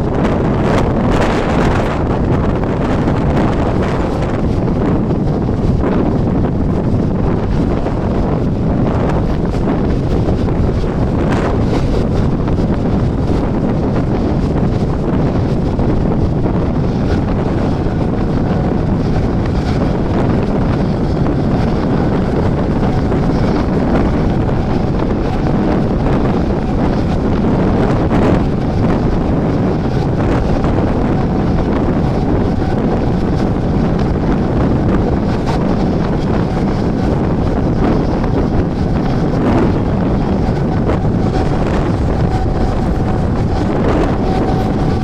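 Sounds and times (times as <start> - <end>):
train running on track: 0.0 - 45.0
wind buffeting microphone: 0.0 - 45.0.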